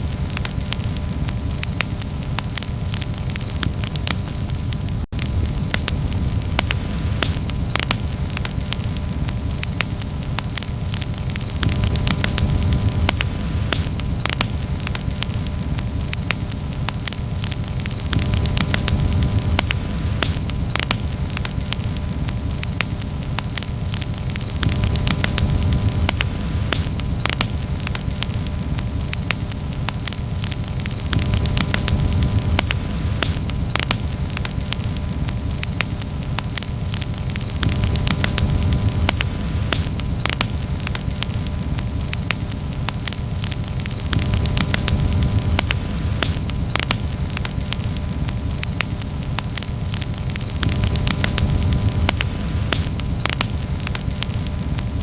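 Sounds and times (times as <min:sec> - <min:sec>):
campfire crackling: 0:00.0 - 0:55.0
fire popping and snapping: 0:00.0 - 0:55.0
low rumble of burning fire: 0:00.0 - 0:55.0.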